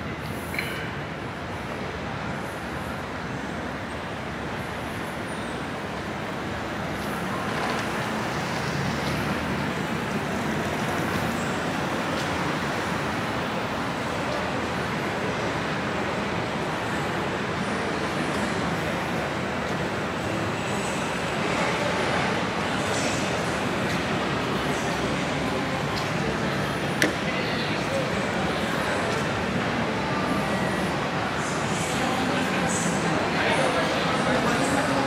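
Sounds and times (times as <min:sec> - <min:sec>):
trains or traffic rushing: 0:00.0 - 0:35.0.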